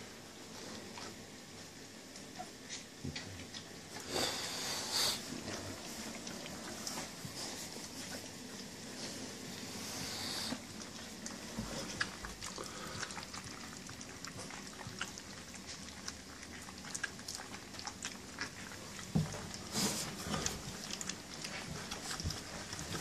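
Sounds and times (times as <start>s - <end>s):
puppies crunching dry kibble: 2.0s - 23.0s.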